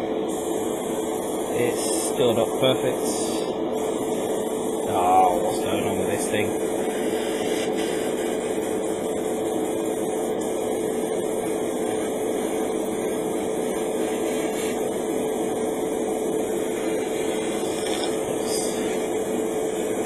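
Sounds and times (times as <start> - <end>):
extractor fan humming: 0.0 - 20.0.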